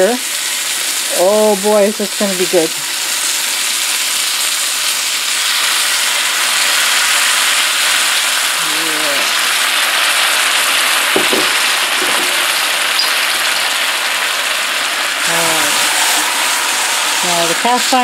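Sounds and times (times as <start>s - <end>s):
meat sizzling in a skillet: 0.0s - 18.0s.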